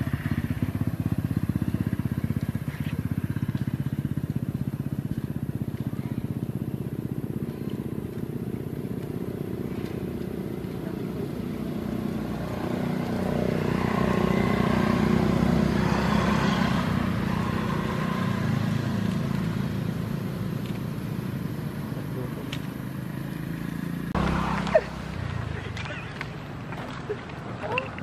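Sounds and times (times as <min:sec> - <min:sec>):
vehicle engine passing by: 0:00.0 - 0:28.0.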